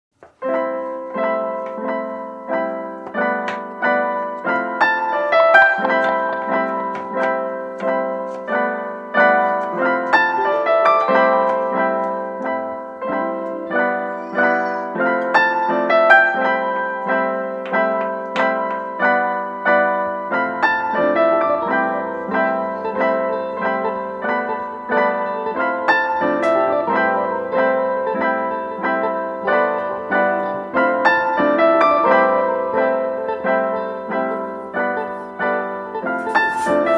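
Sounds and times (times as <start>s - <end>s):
piano music: 0.2s - 36.9s.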